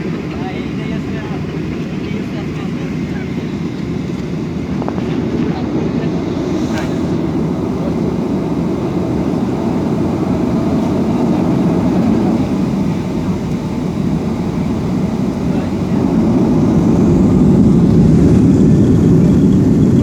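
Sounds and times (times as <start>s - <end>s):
airliner cabin engine rumble: 0.0s - 20.0s.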